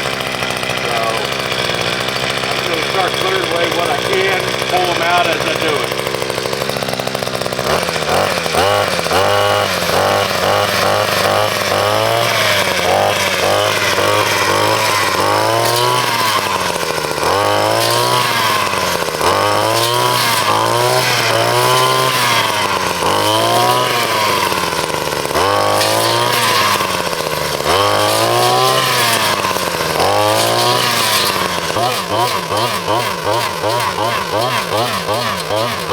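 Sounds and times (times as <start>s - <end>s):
small chainsaw cutting brush: 0.0s - 35.9s.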